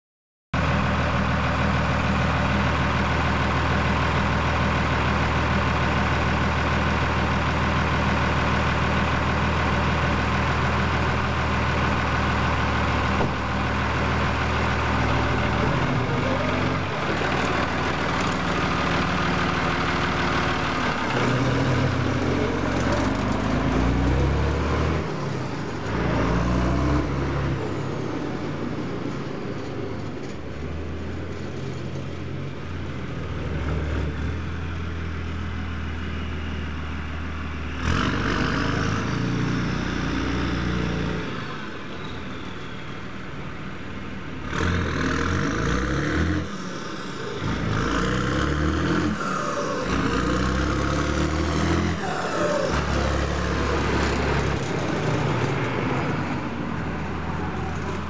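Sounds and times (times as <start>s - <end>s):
tractor diesel engine: 0.6s - 58.0s.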